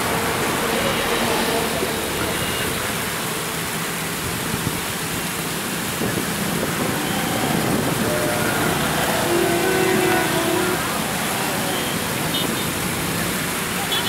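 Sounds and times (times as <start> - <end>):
water pouring over weir: 0.0 - 14.0.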